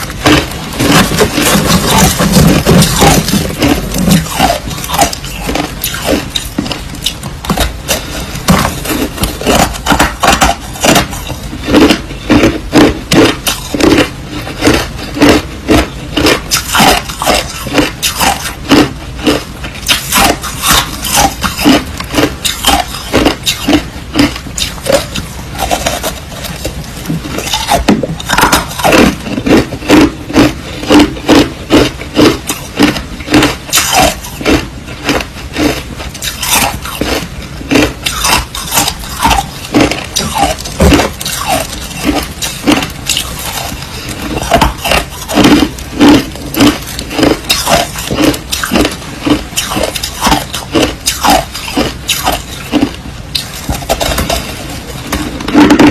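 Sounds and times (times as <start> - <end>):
crushed ice crunching in mouth: 0.0 - 55.9.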